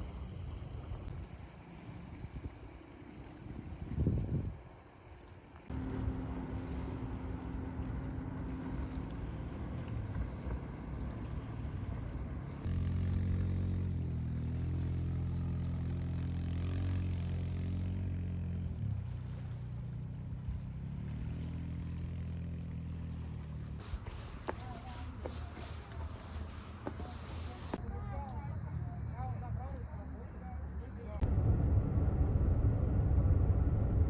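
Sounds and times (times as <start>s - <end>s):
vehicle engine drone: 0.0s - 2.1s, 5.6s - 34.0s.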